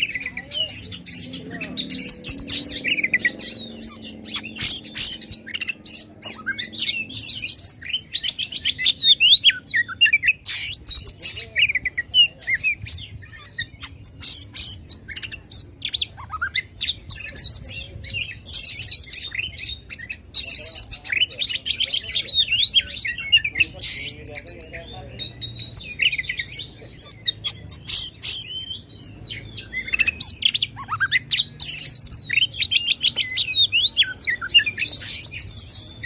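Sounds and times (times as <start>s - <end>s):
bird singing whistles and trills: 0.0s - 36.0s.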